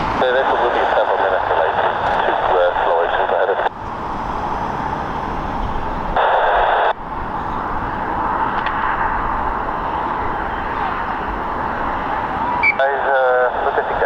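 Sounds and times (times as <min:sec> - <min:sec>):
radio squelch: 0:00.0 - 0:07.7, 0:10.1 - 0:14.0
jet aircraft engine noise: 0:00.0 - 0:14.0.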